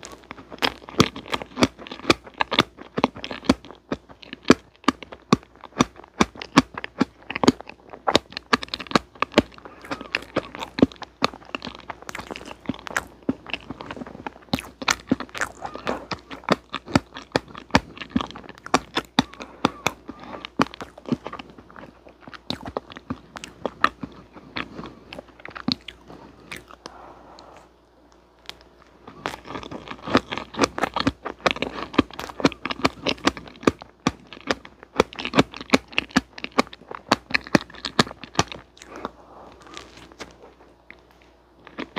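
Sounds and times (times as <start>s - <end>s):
person chewing with mouth clicks: 0.0s - 41.9s.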